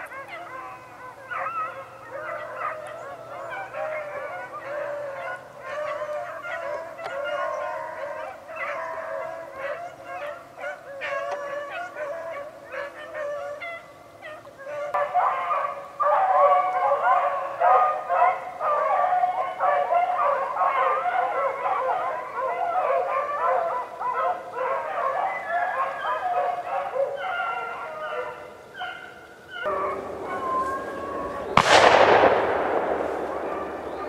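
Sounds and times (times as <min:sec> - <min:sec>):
hounds baying: 0:00.0 - 0:34.0.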